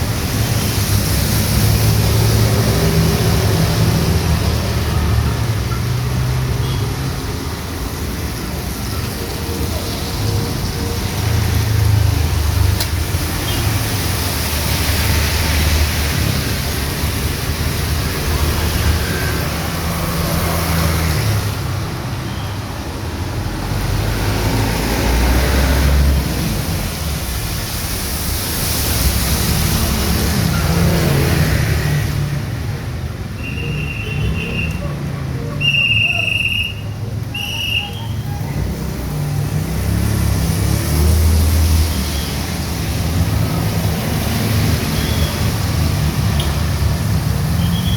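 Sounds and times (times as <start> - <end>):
cars and motorbikes passing: 0.0 - 47.9
heavy rain on street: 0.0 - 47.9.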